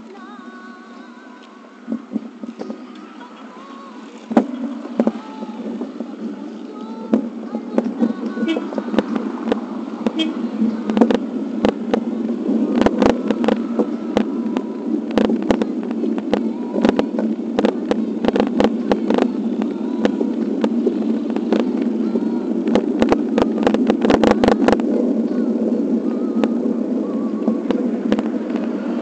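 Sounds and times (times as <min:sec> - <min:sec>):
wind and road noise: 0:00.0 - 0:29.0.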